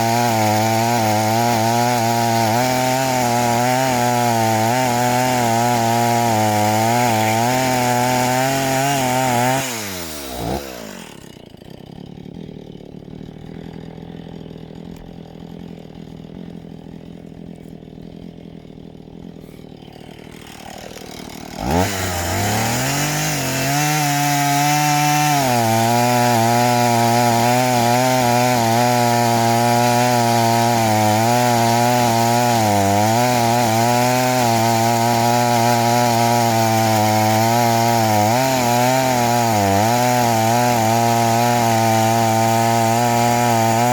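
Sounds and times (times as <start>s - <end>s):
chainsaw cutting log: 0.0s - 43.9s.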